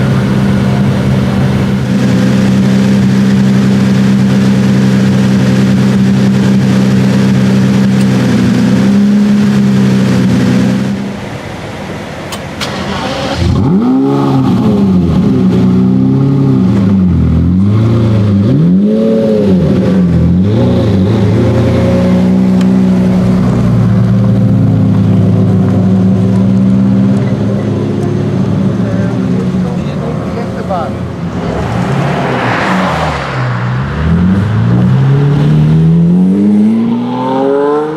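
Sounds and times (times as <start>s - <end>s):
sports car engine idling and revving: 0.0s - 37.9s.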